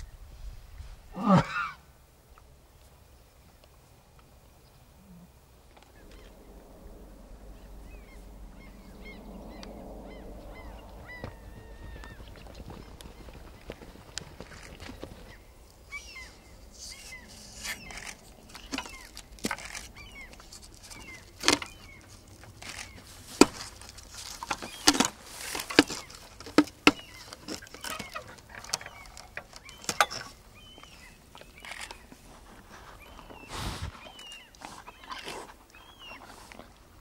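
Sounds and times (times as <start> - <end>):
small birds chirping: 2.3 - 37.0.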